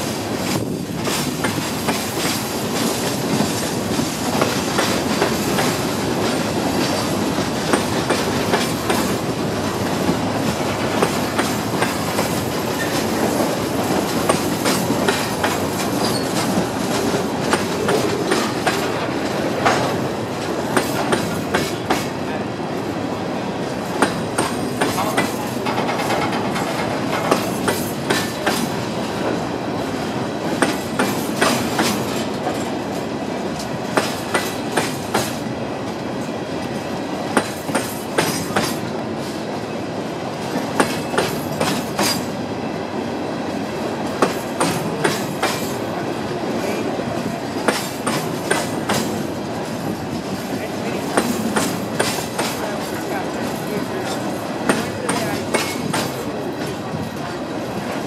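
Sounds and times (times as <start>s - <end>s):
train wheels clicking over rail joints: 0.0s - 22.2s, 23.7s - 39.6s, 40.3s - 42.4s, 43.8s - 46.0s, 47.0s - 58.0s
freight train rolling rumble: 0.0s - 58.0s.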